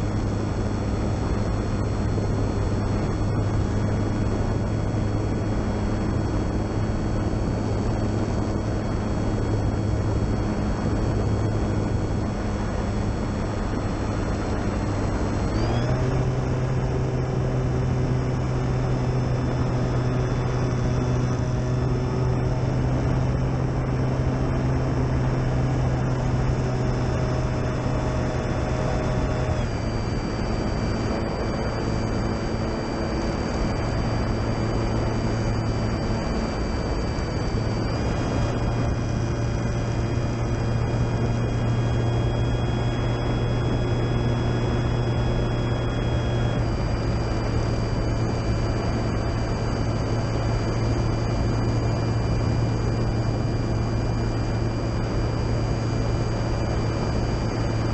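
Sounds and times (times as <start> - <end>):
model plane motor whining: 0.0 - 57.9.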